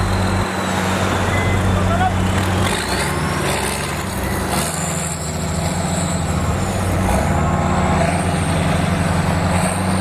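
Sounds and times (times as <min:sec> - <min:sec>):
diesel earthmoving machine running: 0:00.0 - 0:10.0.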